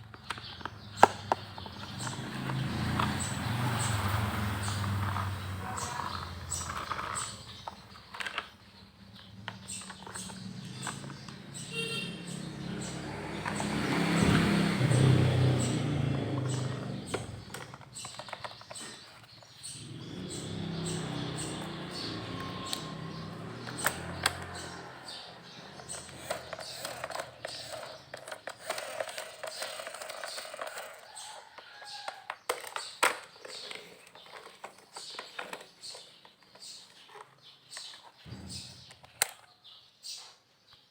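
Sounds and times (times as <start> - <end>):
plastic toys clicking and clattering: 0.0 - 11.8, 13.3 - 39.7.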